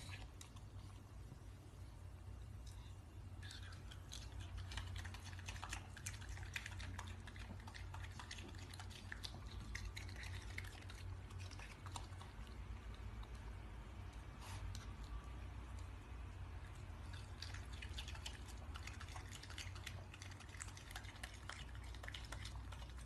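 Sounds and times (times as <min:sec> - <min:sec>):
raccoon chewing fruit: 0:00.0 - 0:01.4, 0:02.3 - 0:23.0
low steady hum: 0:00.0 - 0:23.0.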